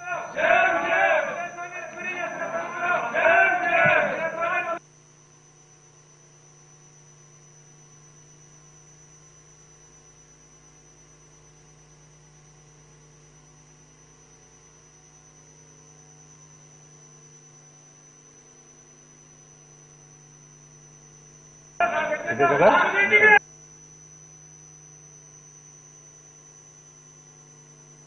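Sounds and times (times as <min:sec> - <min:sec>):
faint electrical hum: 0:00.0 - 0:28.0
thin high whine: 0:00.0 - 0:28.0.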